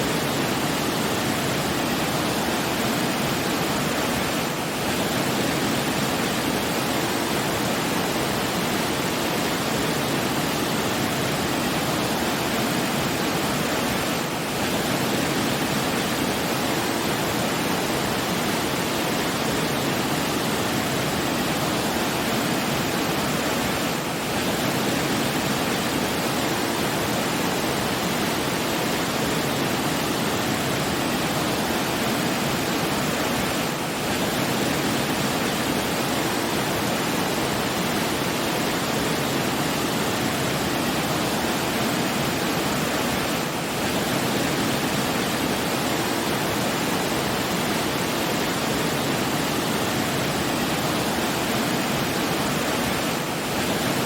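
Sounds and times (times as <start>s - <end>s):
rushing falling water: 0.0s - 54.0s.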